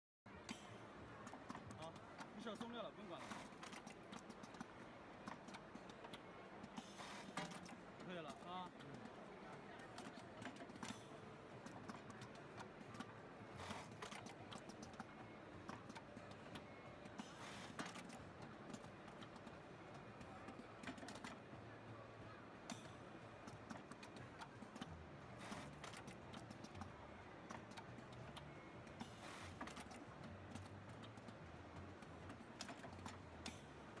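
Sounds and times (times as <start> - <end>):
sewing machine clicking and tapping: 0.4 - 21.5, 22.7 - 34.0.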